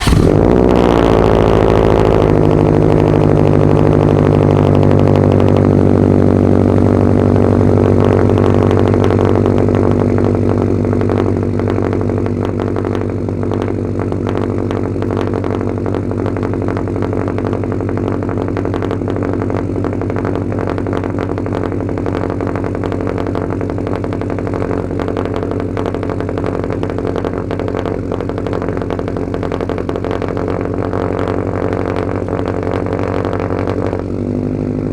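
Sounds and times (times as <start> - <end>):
car engine idling with rumble: 0.0 - 34.9.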